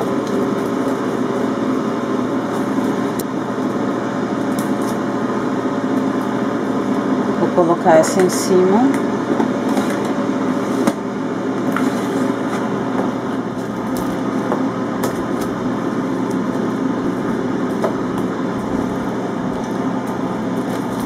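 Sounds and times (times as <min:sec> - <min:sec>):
air fryer fan humming: 0:00.0 - 0:21.0.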